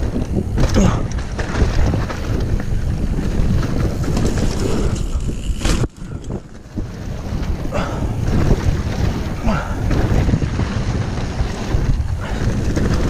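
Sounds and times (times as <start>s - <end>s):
bike tyres rumbling and rattling: 0.0s - 13.0s
wind on microphone: 0.0s - 13.0s.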